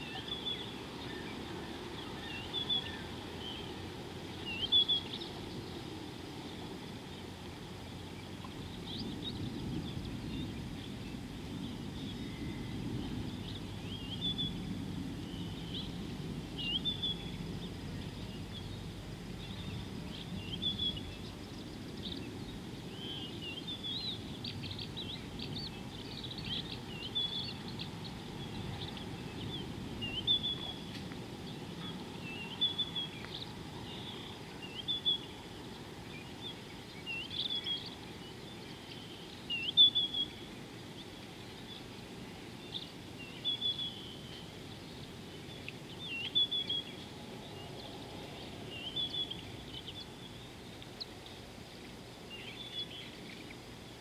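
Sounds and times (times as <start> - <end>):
birds chirping and whistling: 0.0 - 1.4, 2.0 - 3.7, 4.4 - 5.8, 8.6 - 18.8, 19.4 - 35.4, 36.1 - 41.9, 42.6 - 51.1, 52.3 - 53.6
low background noise: 0.0 - 54.0.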